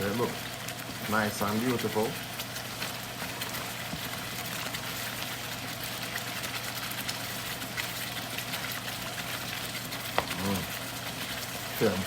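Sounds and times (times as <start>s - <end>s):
sauce sizzling in a pan: 0.0s - 12.0s.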